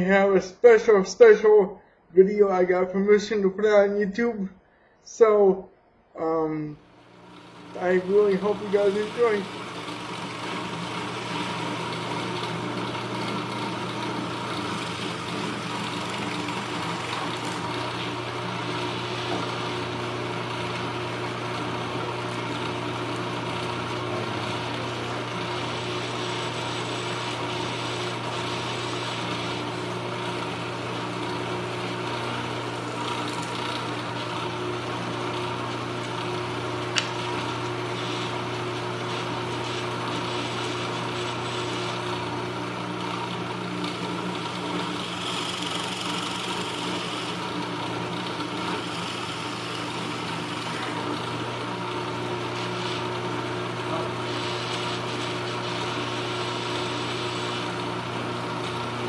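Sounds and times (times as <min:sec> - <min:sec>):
drill press motor humming: 0:06.8 - 0:59.0.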